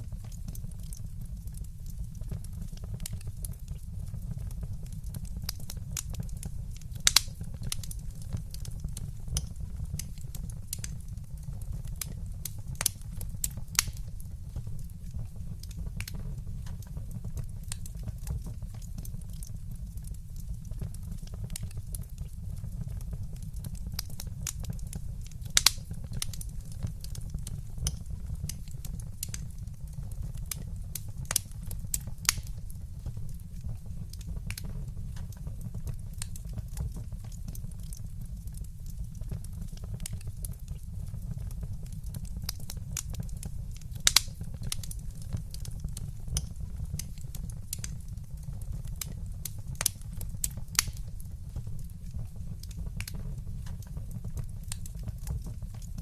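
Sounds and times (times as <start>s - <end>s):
low rumble of flames: 0.0s - 56.0s
wood crackling and popping: 0.0s - 56.0s.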